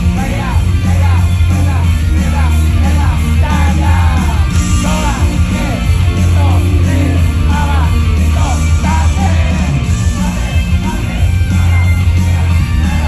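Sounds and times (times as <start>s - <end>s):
crowd singing and yelling: 0.0s - 13.0s
pop song over pa system: 0.0s - 13.0s.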